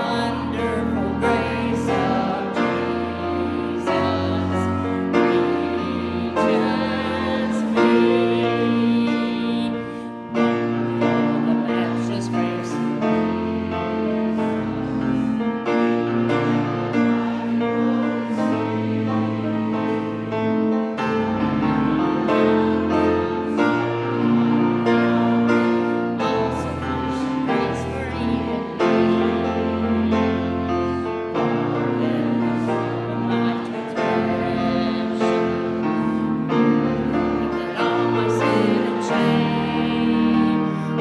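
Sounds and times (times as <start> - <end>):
hymn on piano: 0.0 - 41.0
people singing: 0.0 - 41.0.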